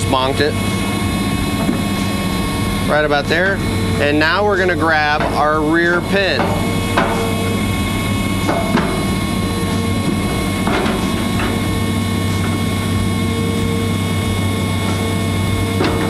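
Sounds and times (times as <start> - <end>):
excavator diesel engine running: 0.0 - 16.0
hydraulics working: 0.0 - 16.0
warning buzzer: 0.0 - 16.0.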